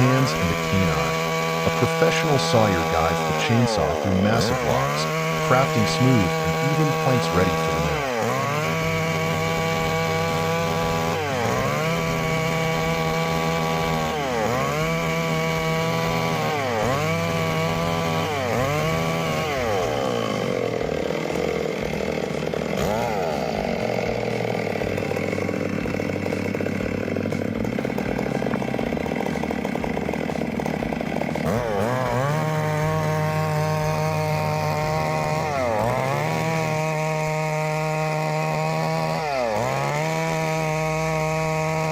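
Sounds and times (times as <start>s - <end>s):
chainsaw cutting logs: 0.0s - 41.9s.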